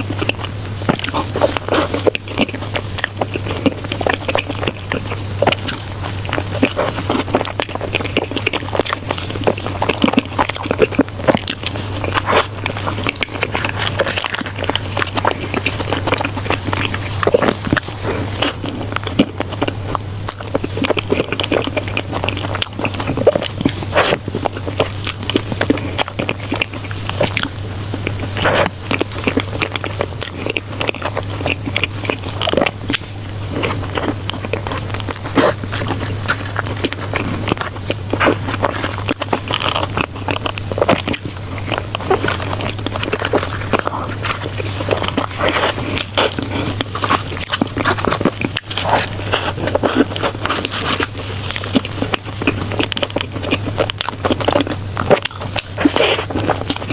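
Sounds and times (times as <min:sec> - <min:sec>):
biting and chewing food: 0:00.0 - 0:56.9
mouth clicks: 0:00.0 - 0:56.9
steady low hum: 0:00.0 - 0:56.9.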